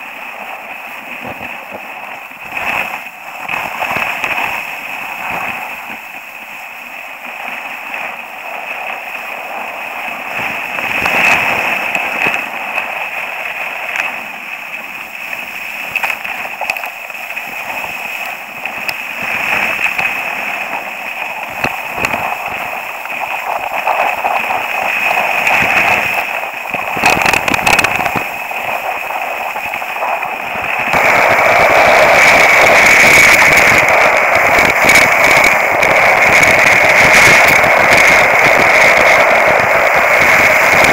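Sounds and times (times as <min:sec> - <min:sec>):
skis scraping over snow: 0:00.1 - 0:40.9.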